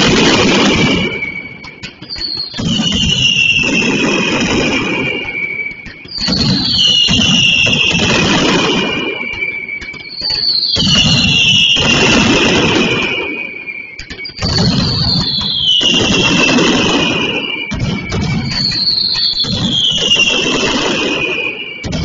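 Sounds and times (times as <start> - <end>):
firecrackers crackling and rumbling: 0.0 - 22.0
whistling fireworks falling in pitch: 0.0 - 22.0.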